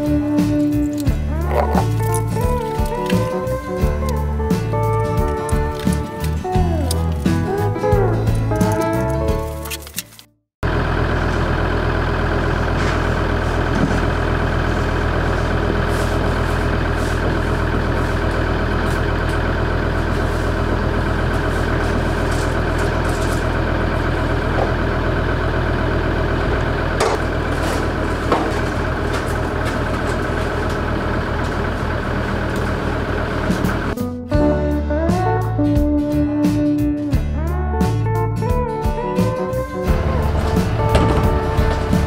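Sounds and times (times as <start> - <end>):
diesel engine idling: 0.0 - 9.6, 10.6 - 34.2, 39.3 - 42.0.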